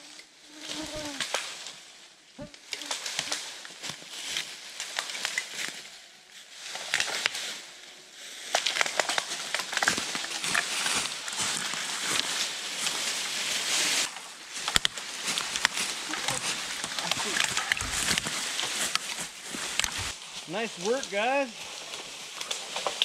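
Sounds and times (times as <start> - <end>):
branch dragging and snapping: 2.7 - 5.9, 6.6 - 23.0
footsteps crunching dry leaves: 2.8 - 22.8.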